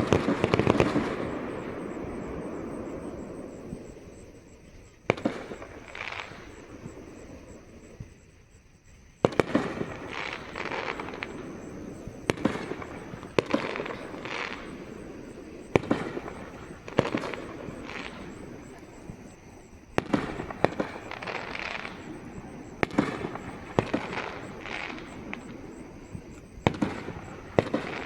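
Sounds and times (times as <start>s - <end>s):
distant fireworks bangs: 0.0s - 8.4s, 9.1s - 28.0s
fireworks crackling: 0.0s - 28.0s.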